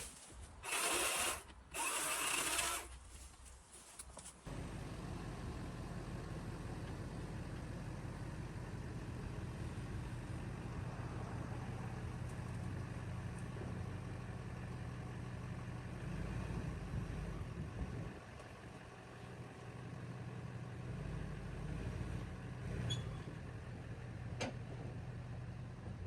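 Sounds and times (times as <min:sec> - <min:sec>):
vehicle engine idling: 0:04.5 - 0:26.0.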